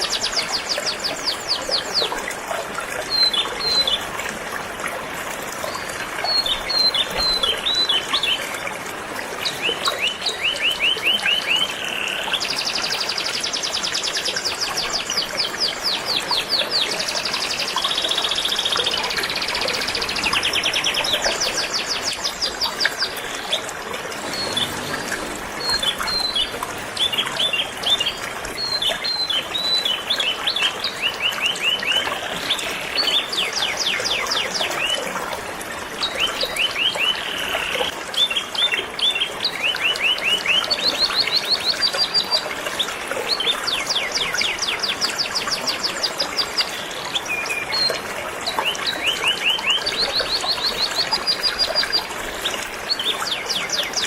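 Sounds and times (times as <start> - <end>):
flowing river water: 0.0 - 54.0.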